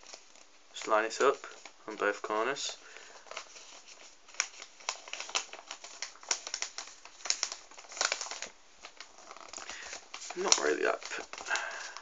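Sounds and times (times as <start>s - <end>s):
paper crinkling while folded: 0.0s - 12.0s.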